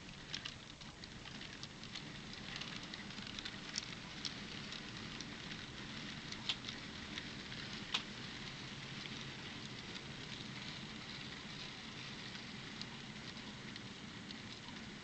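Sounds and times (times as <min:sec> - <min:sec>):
model train wheels rattling: 0:00.0 - 0:15.0.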